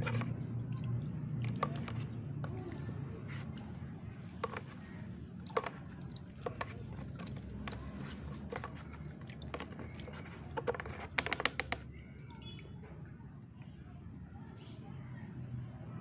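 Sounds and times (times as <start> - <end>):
water splashing in bucket: 0.0 - 13.4.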